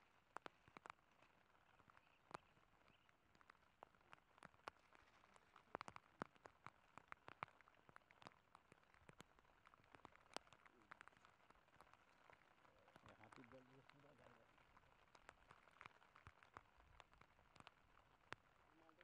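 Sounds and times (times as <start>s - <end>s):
faint rain hiss: 0.0s - 19.0s
raindrops tapping: 0.0s - 19.0s.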